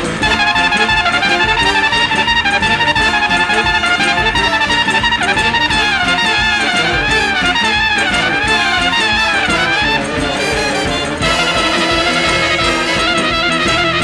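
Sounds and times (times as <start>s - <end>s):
trumpet melody: 0.0s - 14.0s
upbeat brass band music: 0.0s - 14.0s.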